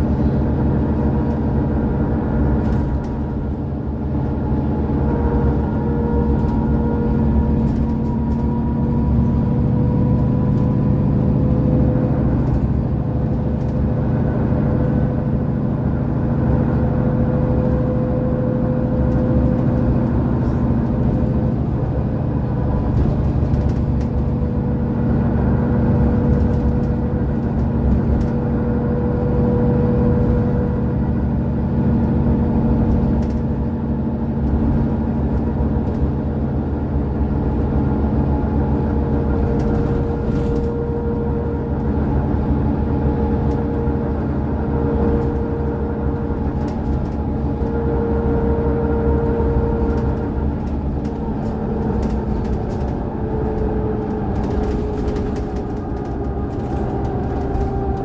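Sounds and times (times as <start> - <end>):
bus diesel engine humming: 0.0 - 58.0.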